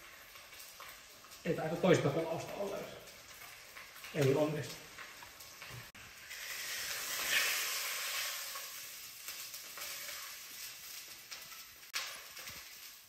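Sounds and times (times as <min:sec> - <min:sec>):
steak sizzling in a pot: 0:00.0 - 0:13.0.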